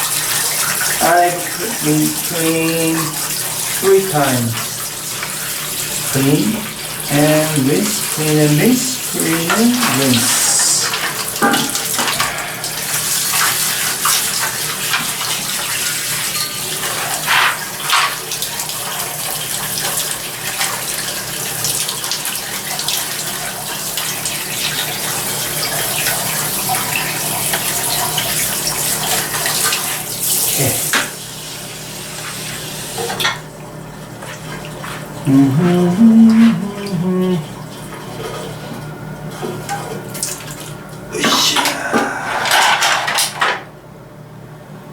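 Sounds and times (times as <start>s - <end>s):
tap water running over metal: 0.0s - 41.1s.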